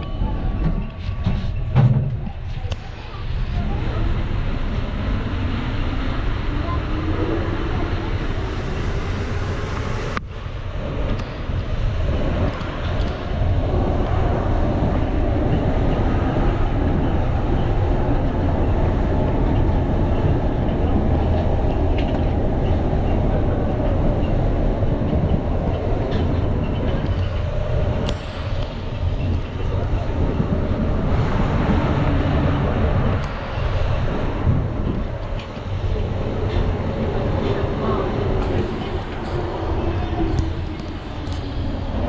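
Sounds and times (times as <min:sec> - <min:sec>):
metro train rumbling: 0:00.0 - 0:42.0.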